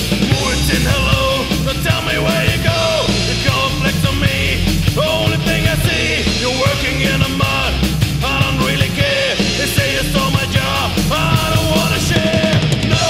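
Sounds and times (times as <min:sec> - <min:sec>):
heavy metal band playing: 0:00.0 - 0:13.0.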